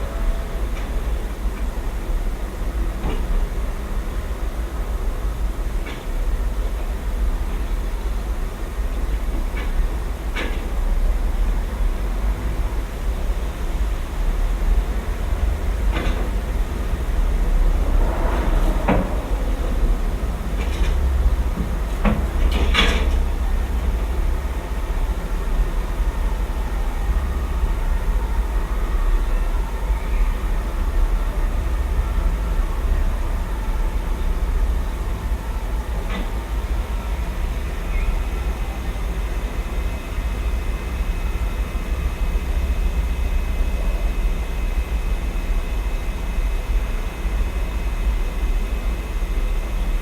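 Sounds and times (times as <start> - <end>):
low rumble of city noise: 0.0 - 50.0.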